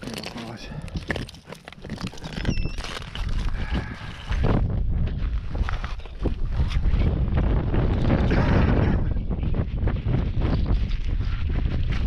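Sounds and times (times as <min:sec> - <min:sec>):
wind buffeting microphone: 0:00.8 - 0:12.0.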